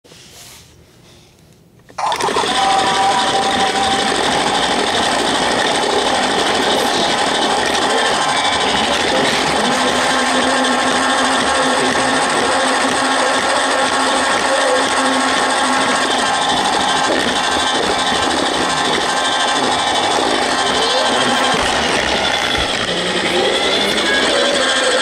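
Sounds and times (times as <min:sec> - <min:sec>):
toy train motor running: 0:02.0 - 0:25.0.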